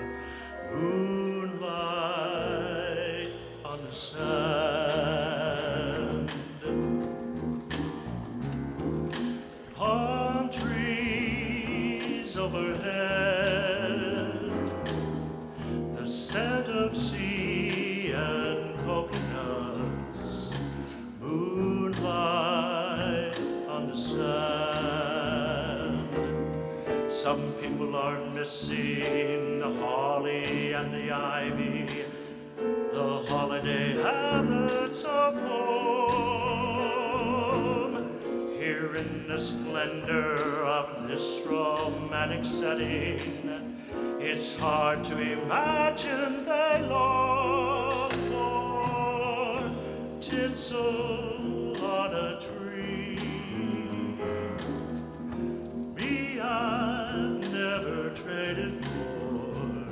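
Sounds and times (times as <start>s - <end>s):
man singing with vibrato: 0.0s - 7.3s, 9.2s - 59.9s
instrumental accompaniment: 0.0s - 59.9s.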